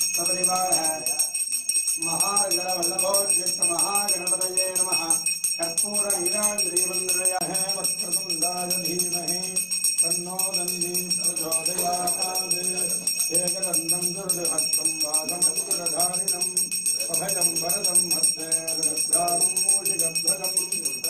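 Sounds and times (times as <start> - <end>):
person chanting: 0.0 - 1.3, 2.0 - 21.0
hand bell ringing rapidly: 0.0 - 21.0.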